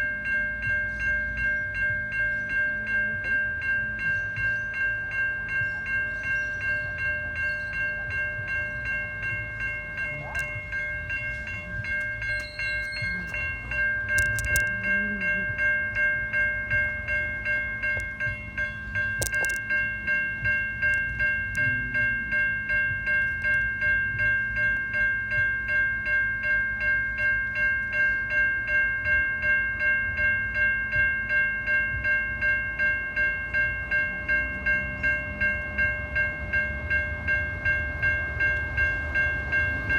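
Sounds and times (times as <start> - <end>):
level crossing bells ringing: 0.0 - 39.9
passing train rumble: 0.0 - 39.9.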